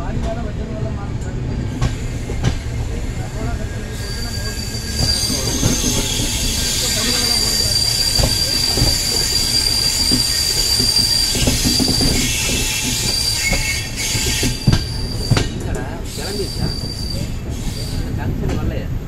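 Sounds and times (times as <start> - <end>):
train running gear rumbling: 0.0 - 19.0
train wheels squealing: 1.6 - 18.3.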